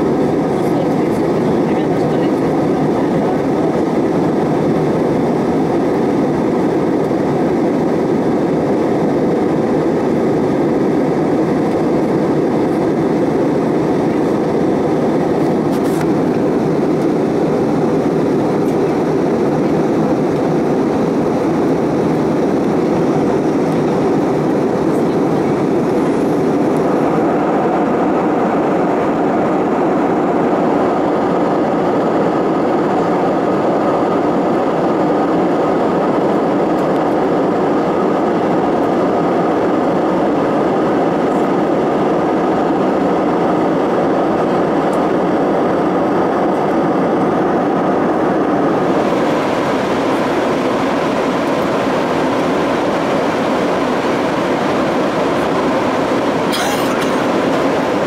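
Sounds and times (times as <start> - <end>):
airplane cabin noise: 0.0 - 58.0.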